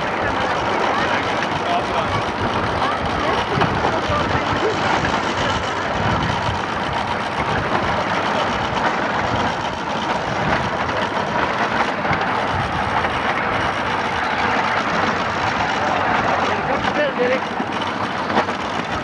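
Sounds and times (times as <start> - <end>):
miniature train running on track: 0.0 - 19.0.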